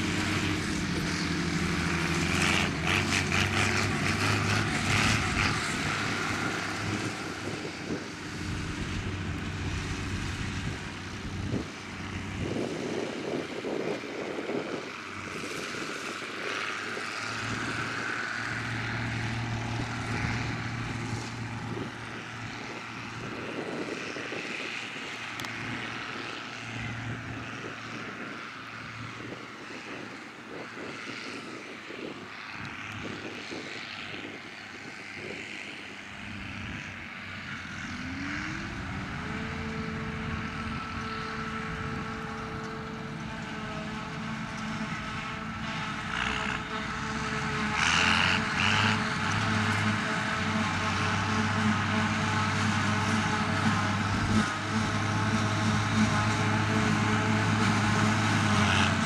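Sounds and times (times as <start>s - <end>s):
forage harvester working: 0.0s - 59.0s
tractor engine driving off: 0.0s - 59.0s.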